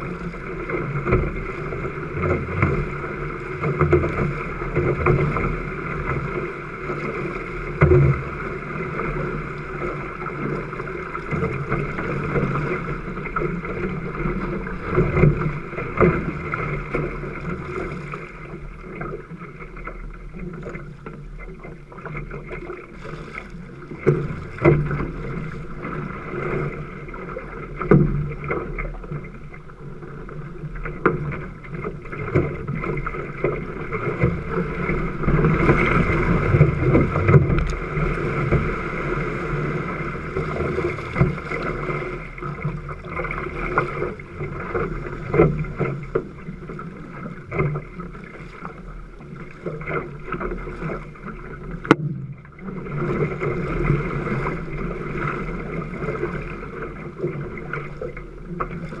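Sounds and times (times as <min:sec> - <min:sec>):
paddle stroke splashes: 0:00.0 - 0:59.0
water rushing along canoe hull: 0:00.0 - 0:59.0.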